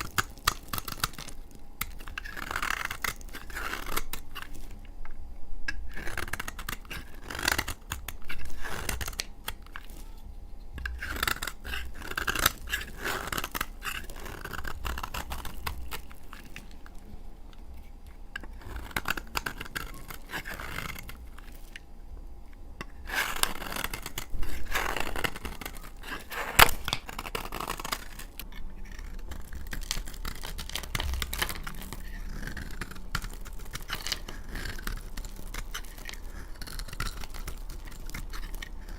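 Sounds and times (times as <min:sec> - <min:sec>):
blade scraping soap: 0:00.0 - 0:04.9, 0:05.7 - 0:21.9, 0:22.8 - 0:38.9.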